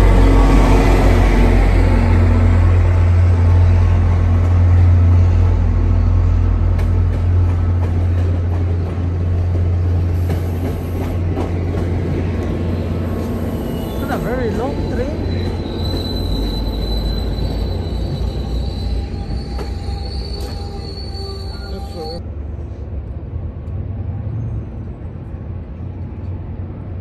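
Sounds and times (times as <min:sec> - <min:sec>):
diesel train low drone: 0:00.0 - 0:27.0.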